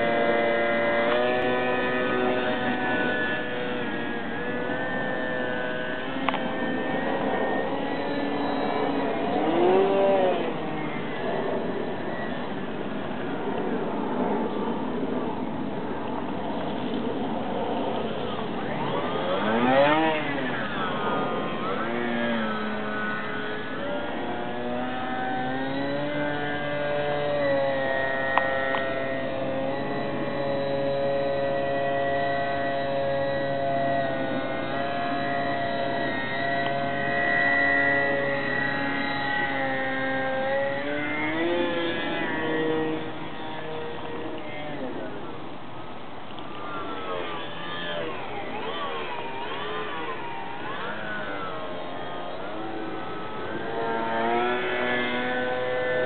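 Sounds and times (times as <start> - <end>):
model plane motor whine: 0.0 - 56.0.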